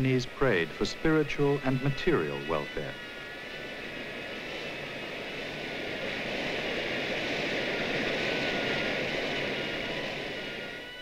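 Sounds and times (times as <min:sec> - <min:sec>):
faint steady high tones: 0:00.0 - 0:11.0
rushing noise: 0:00.0 - 0:11.0.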